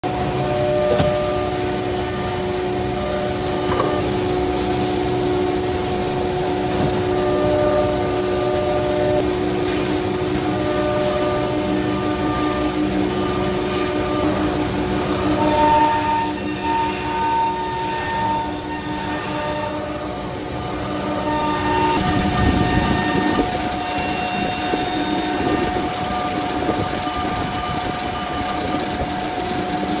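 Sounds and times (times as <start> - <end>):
router spindle whine: 0.1 - 30.0.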